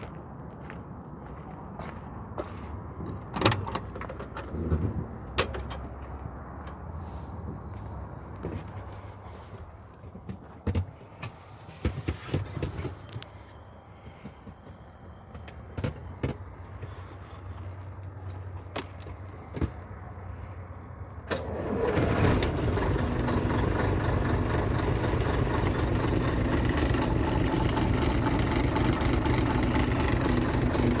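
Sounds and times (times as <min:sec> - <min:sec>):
diesel truck engine starting and idling: 0:01.8 - 0:11.1, 0:12.6 - 0:31.0.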